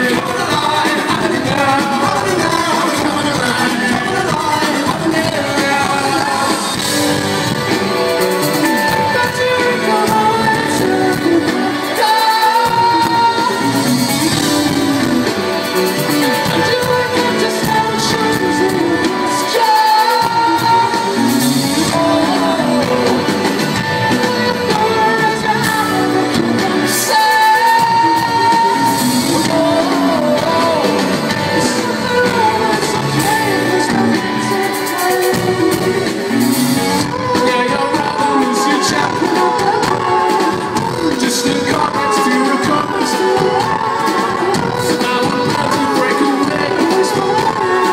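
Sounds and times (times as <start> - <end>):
person singing lead vocal: 0.0 - 47.9
rock band playing live: 0.0 - 47.9.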